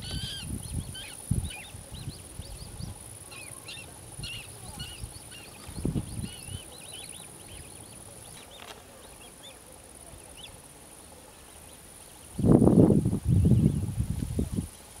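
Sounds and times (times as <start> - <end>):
birds chirping: 0.0 - 12.6
high insect-like hiss: 0.0 - 15.0.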